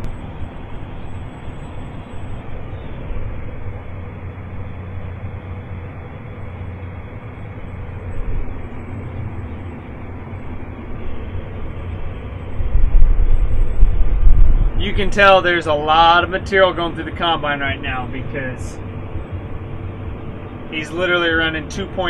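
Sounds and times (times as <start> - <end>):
tractor engine rumble from cab: 0.0 - 22.0.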